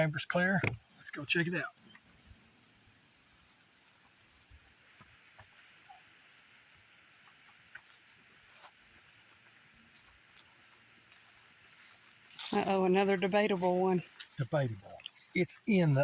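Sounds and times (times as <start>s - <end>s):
insect chirping: 0.0s - 16.0s
insect buzz: 0.4s - 16.0s.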